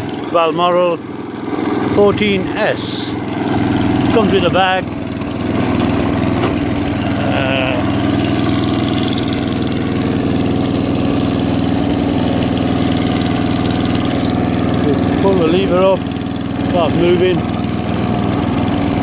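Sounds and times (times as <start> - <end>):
lawnmower engine idling: 0.0 - 19.0.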